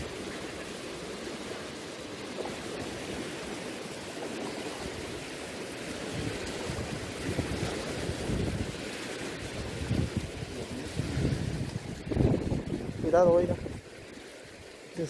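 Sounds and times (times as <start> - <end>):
wind buffeting microphone: 0.0 - 14.8
waves washing: 0.0 - 15.0
wind blowing over water: 0.0 - 15.0.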